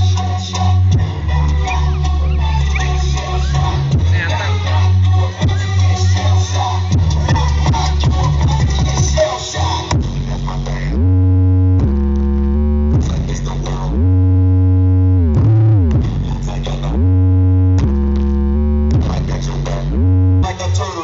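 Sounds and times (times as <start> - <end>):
bass-heavy electronic music: 0.0 - 21.0.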